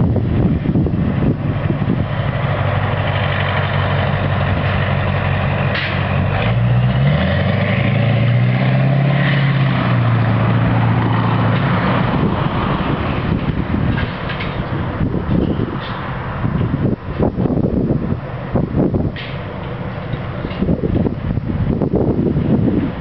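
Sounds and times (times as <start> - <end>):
armoured vehicle engine drone: 0.0 - 23.0
tracks rattling on road: 0.0 - 23.0.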